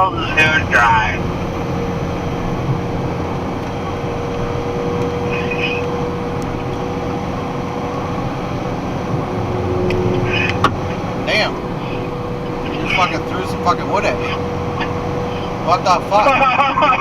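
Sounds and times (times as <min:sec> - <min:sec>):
thin even whine: 0:00.0 - 0:16.6
truck engine and road drone: 0:00.0 - 0:17.0.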